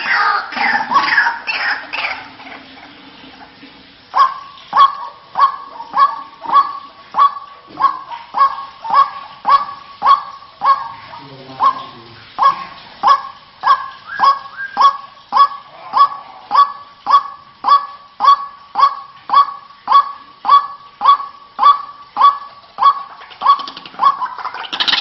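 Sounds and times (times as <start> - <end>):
waterhen calling: 0.0 - 25.0.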